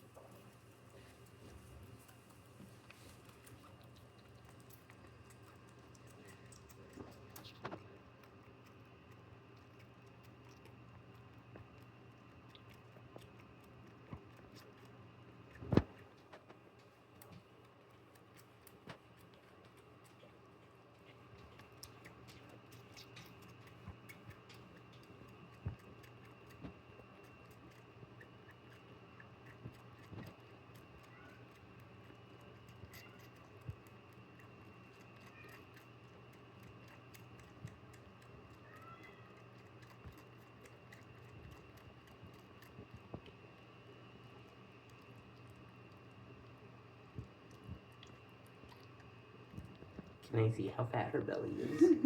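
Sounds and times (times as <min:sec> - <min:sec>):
kitten suckling from a bottle: 0:00.0 - 0:50.3
low steady hum: 0:00.0 - 0:52.0.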